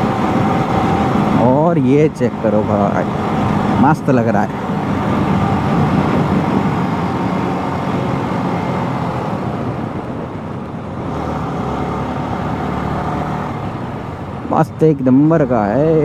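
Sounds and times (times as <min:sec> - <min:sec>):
wind rushing: 0:00.0 - 0:14.5.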